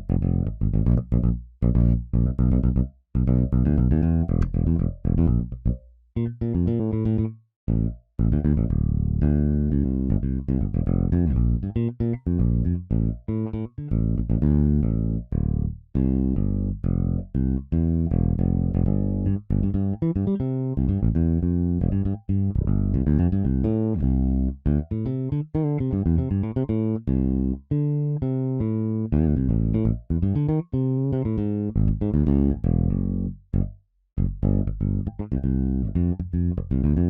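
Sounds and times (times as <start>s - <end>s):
plucked electric bass line: 0.0s - 37.0s.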